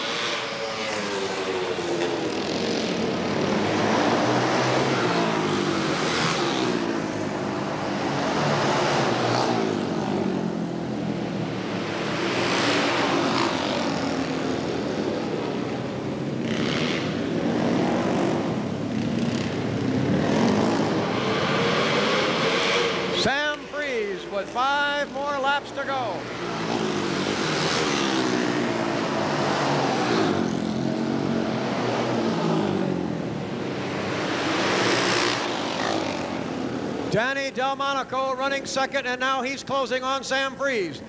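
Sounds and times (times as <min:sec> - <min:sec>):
motorcycles racing past: 0:00.0 - 0:25.0, 0:25.9 - 0:37.1.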